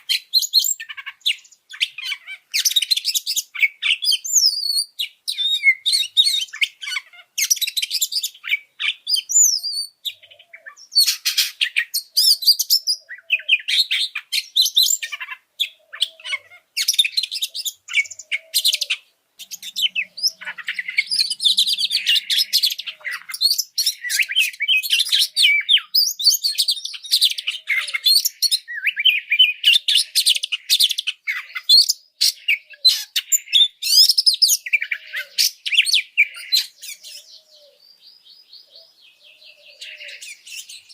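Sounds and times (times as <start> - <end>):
bird singing rapid varied song: 0.0 - 40.9.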